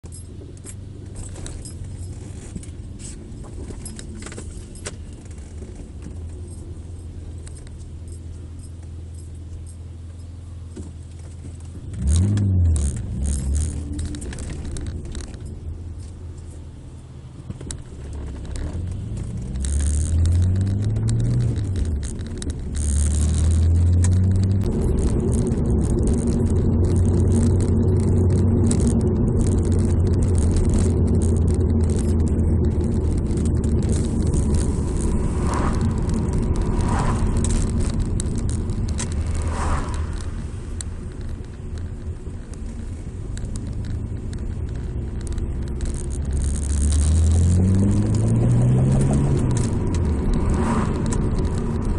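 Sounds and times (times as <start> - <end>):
car engine heard from inside: 0.0 - 51.9.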